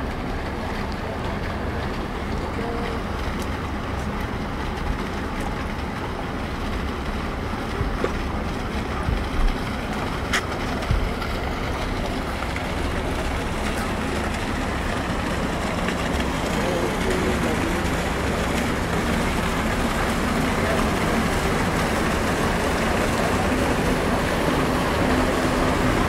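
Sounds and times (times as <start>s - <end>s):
outdoor rumble and hiss: 0.0s - 26.0s.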